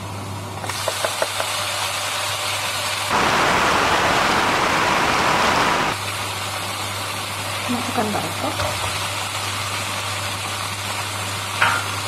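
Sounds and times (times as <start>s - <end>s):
chili paste sizzling in a wok: 0.0s - 3.2s, 4.8s - 12.0s.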